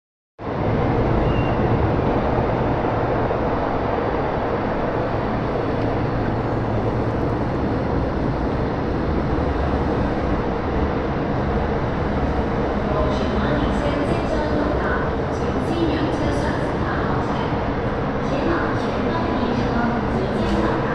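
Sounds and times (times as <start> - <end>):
train rail rumble: 0.4 - 20.9.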